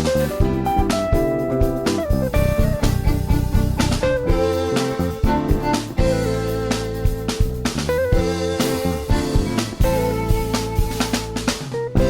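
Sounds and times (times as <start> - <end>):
bass: 0.0 - 12.0
drum kit beat: 0.0 - 12.0
electric guitar: 0.0 - 12.0.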